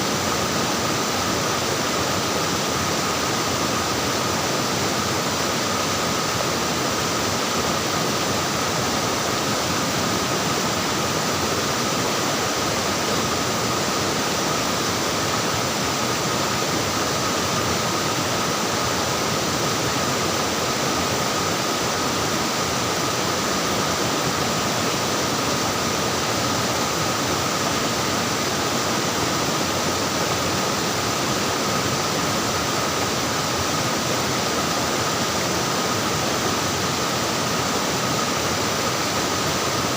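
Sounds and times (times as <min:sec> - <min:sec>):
stream water flowing and splashing: 0:00.0 - 0:39.9.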